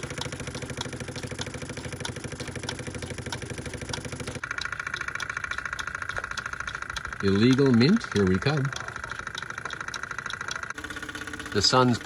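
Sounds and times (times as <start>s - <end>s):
stamp mill clicking: 0.0s - 12.0s
steam engine exhaust beats: 0.0s - 12.0s.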